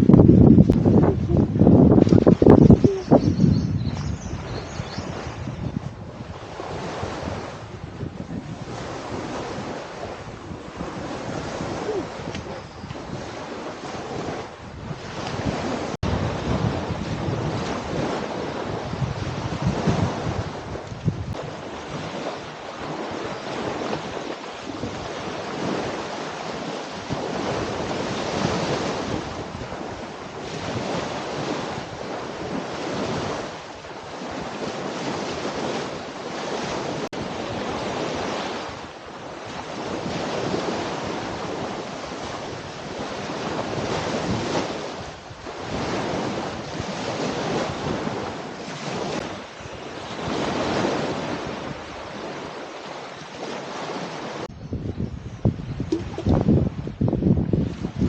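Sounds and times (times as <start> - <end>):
rushing water: 0.0 - 54.5, 55.8 - 58.0
wind on microphone: 0.0 - 58.0.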